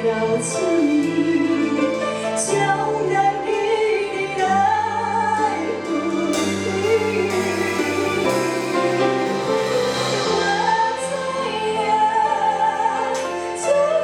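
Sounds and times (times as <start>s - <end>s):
song accompaniment: 0.0s - 14.0s.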